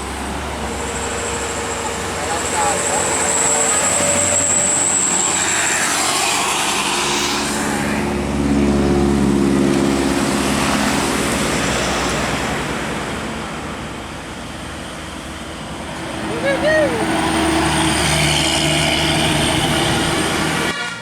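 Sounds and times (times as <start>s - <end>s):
bus engine drone passing: 0.0s - 21.0s.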